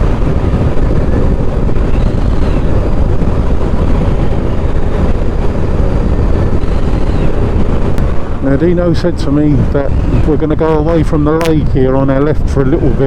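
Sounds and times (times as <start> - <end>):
motorcycle engine and road noise: 0.0 - 13.0
wind buffeting: 0.0 - 13.0.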